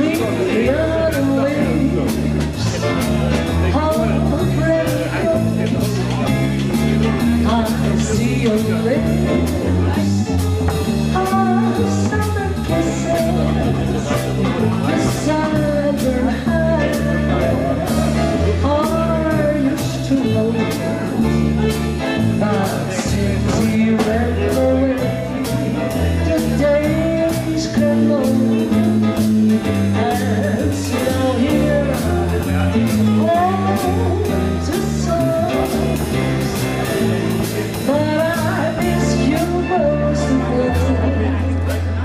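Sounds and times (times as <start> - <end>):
walking bass: 0.0 - 42.0.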